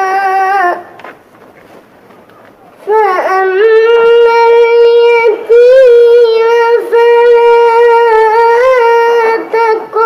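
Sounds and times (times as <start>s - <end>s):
boy chanting melodic recitation: 0.0s - 1.0s, 2.6s - 10.0s.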